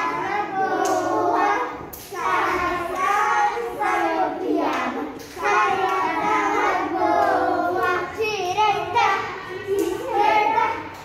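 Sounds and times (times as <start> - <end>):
young children singing: 0.0 - 11.0.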